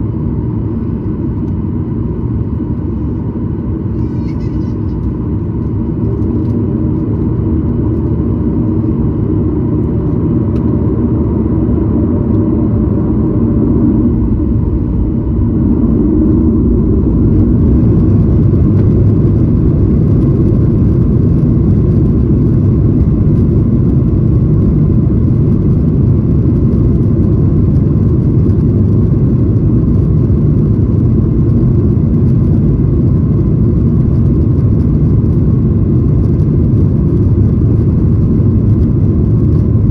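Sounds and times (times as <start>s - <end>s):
faint engine whine: 0.0s - 39.9s
jet engine cabin rumble: 0.0s - 39.9s.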